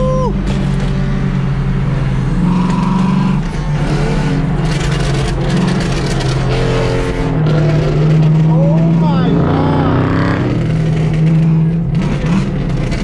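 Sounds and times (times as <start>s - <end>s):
car exhaust droning: 0.0s - 13.0s.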